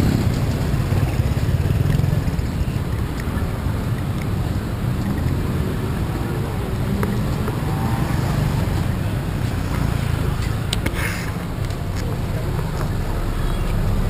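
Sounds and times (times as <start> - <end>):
passing traffic rumble: 0.0 - 14.0.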